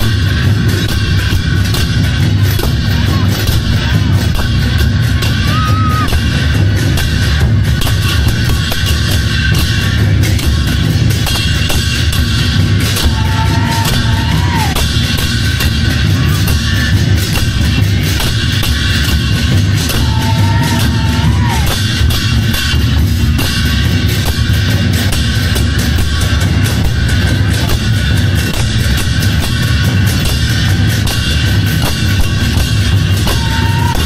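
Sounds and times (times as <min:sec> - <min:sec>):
big drums beaten fast: 0:00.0 - 0:34.0
hand cymbals clashing: 0:00.0 - 0:34.0.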